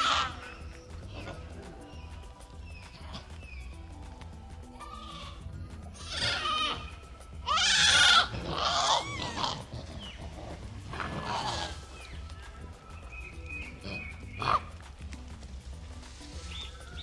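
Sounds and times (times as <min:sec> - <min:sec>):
monkeys screeching calls: 0:00.0 - 0:03.7, 0:04.8 - 0:14.8, 0:16.4 - 0:17.0.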